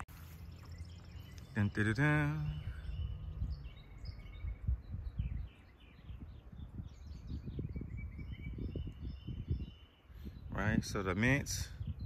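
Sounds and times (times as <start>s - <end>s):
birds chirping and singing: 0.0s - 12.0s.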